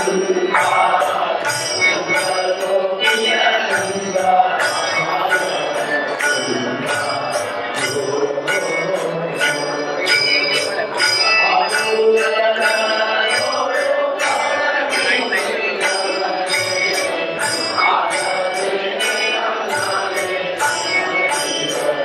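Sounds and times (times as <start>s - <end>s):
bells struck in a steady beat: 0.0s - 22.0s
voices chanting: 0.0s - 22.0s.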